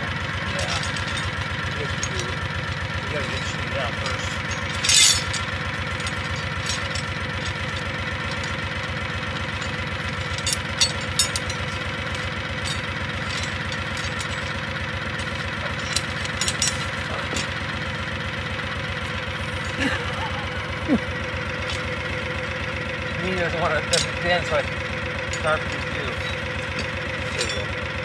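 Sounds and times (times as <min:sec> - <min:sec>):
engine idling: 0:00.0 - 0:28.0
short metallic clinks: 0:00.3 - 0:28.0.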